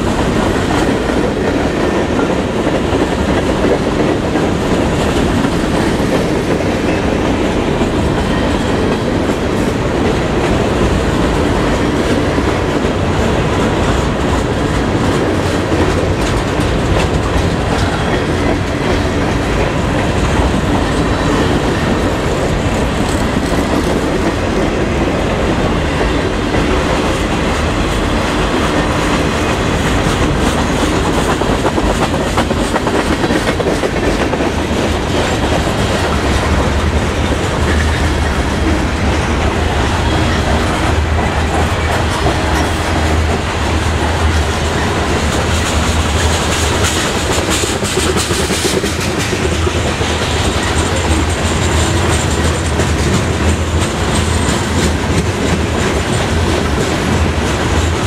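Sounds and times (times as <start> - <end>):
freight train rumbling past: 0.0 - 58.0
wheels clickety-clack: 0.0 - 58.0.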